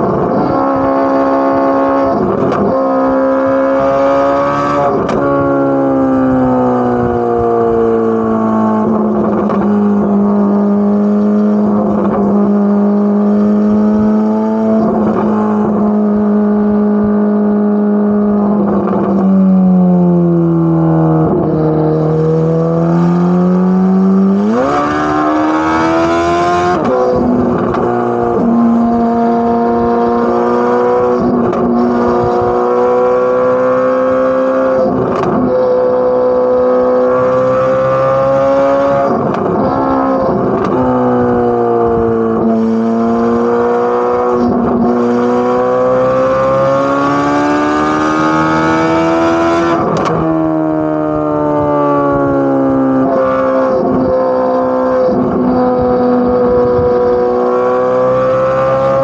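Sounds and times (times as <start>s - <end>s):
car engine exhaust note: 0.0s - 59.0s.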